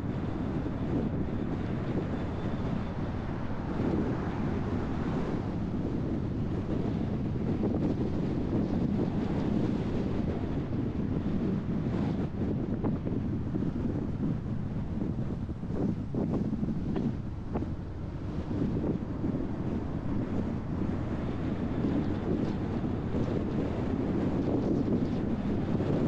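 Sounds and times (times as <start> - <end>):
car road noise: 0.0 - 26.0
wind rumbling on microphone: 0.0 - 26.0.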